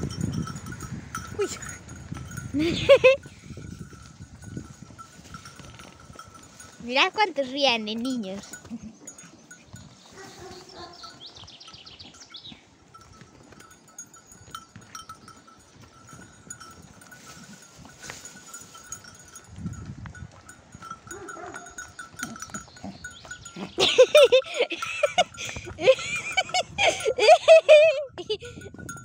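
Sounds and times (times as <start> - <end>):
donkeys chewing: 0.0 - 29.0.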